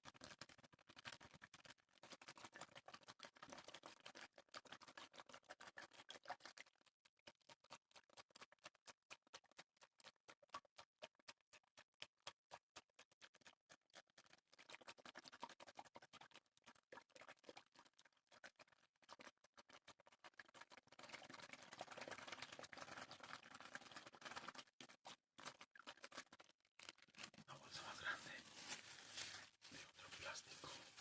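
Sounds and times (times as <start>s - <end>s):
water taps and small splashes: 0.0s - 31.0s.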